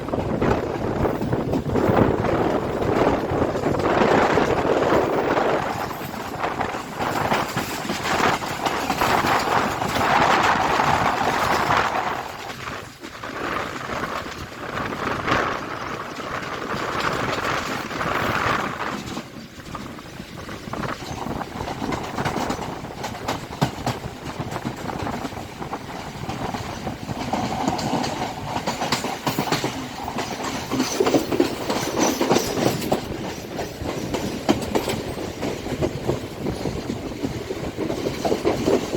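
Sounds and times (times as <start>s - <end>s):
train rushing rumble: 0.0s - 38.9s
wheels clicking over rail joints: 0.0s - 38.9s.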